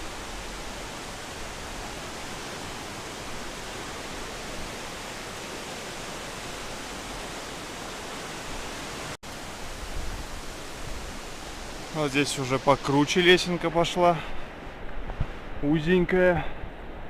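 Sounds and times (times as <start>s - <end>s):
water rushing in a gorge: 0.0s - 16.6s.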